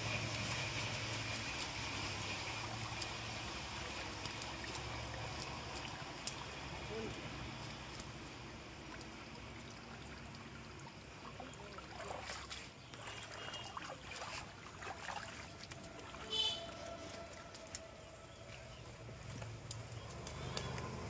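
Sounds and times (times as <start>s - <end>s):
splashes in water: 0.0s - 21.0s
water sloshing and trickling: 0.0s - 21.0s.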